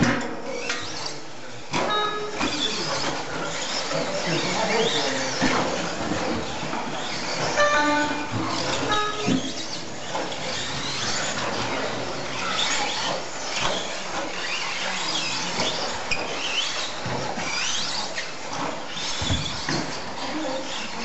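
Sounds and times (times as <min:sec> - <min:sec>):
high-pitched motor whines: 0:00.4 - 0:21.0.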